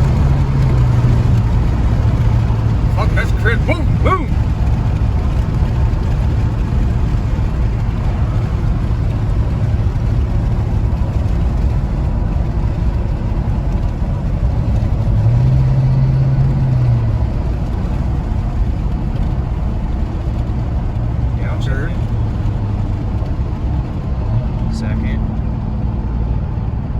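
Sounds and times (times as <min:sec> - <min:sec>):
pickup truck engine running: 0:00.0 - 0:26.9.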